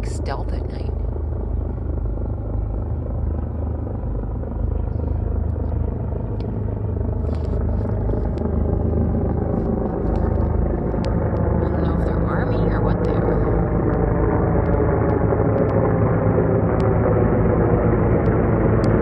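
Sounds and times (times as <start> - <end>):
helicopters flying overhead: 0.0 - 19.0.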